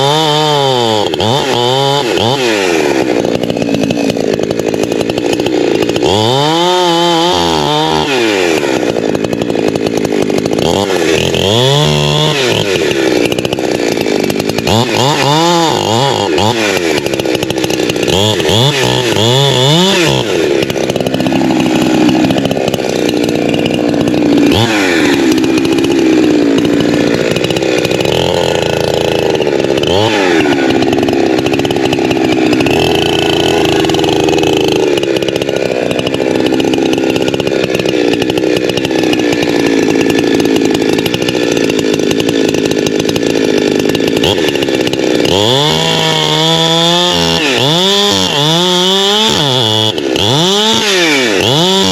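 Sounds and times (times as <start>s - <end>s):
chainsaw cutting at high revs: 0.0s - 51.9s.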